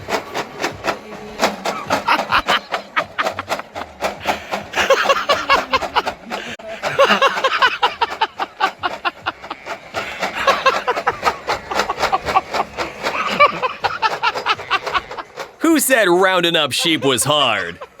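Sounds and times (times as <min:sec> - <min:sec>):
person laughing hard: 0:01.7 - 0:15.4, 0:16.7 - 0:18.0.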